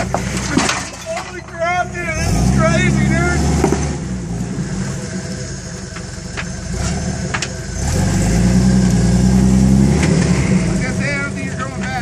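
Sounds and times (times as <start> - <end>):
engine revving: 1.7 - 12.0.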